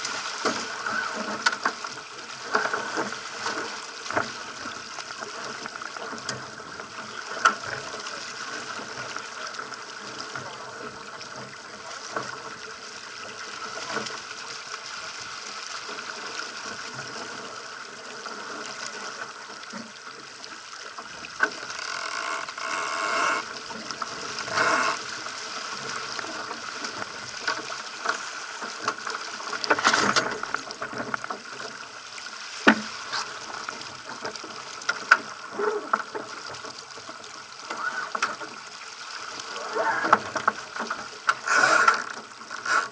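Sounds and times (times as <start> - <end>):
water rushing along boat hull: 0.0 - 42.9.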